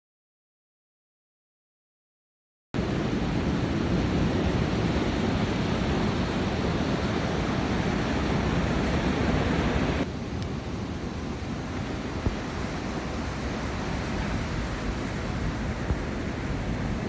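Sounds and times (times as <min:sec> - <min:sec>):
ocean surf rushing: 0:02.8 - 0:17.0
wind buffeting microphone: 0:02.8 - 0:17.0.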